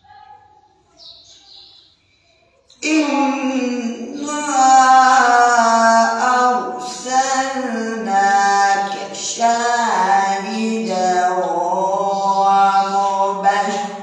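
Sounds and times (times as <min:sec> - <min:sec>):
man chanting recitation: 0:02.7 - 0:14.0.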